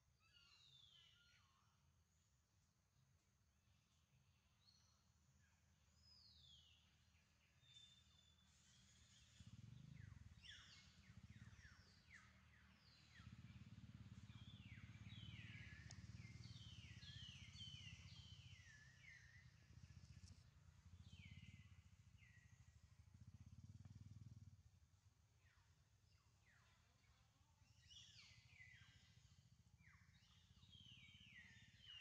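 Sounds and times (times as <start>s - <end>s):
faint birds chirping: 3.6s - 32.0s.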